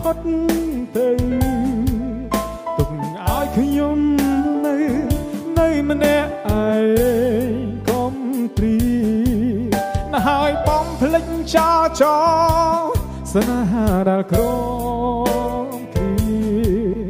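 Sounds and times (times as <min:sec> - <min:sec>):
pop song with drums and bass: 0:00.0 - 0:17.0.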